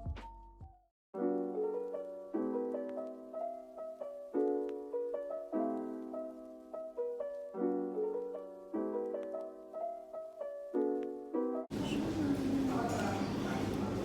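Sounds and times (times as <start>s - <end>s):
soft piano chords: 1.2s - 14.0s.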